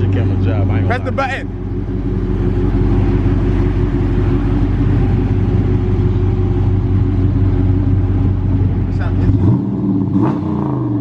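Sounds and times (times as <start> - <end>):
loud deep car exhaust: 0.0 - 11.0.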